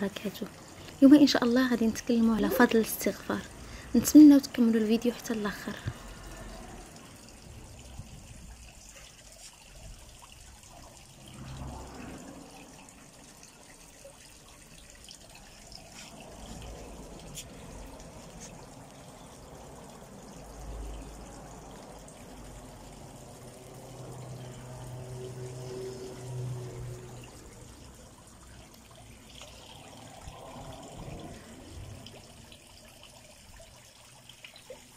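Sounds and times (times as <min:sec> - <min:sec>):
water trickling in pond: 0:00.0 - 0:34.9.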